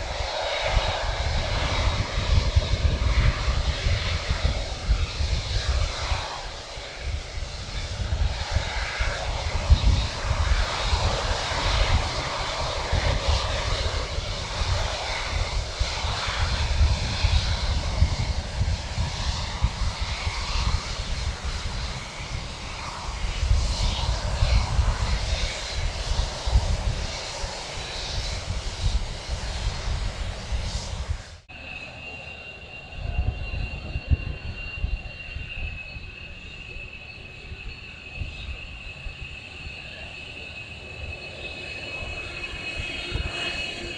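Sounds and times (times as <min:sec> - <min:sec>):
gusty low rumble: 0:00.0 - 0:31.7, 0:32.5 - 0:43.9
jet engine rush: 0:00.0 - 0:43.9.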